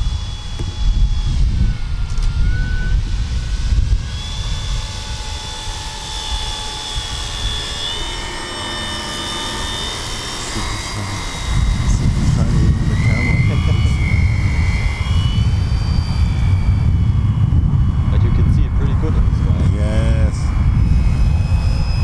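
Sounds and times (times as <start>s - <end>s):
model airplane electric motor whine: 0.0s - 22.0s
wind rumbling on microphone: 0.0s - 22.0s.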